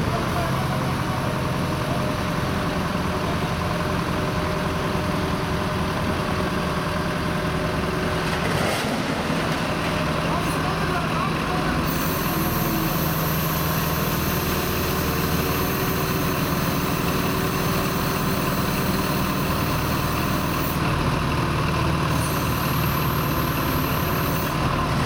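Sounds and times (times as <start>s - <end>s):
diesel engines droning: 0.0s - 25.0s.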